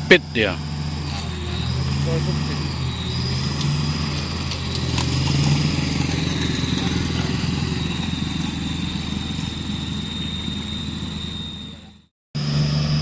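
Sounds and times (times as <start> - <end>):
thin high steady tone: 0.0 - 12.1
vehicle engine droning: 0.0 - 13.0.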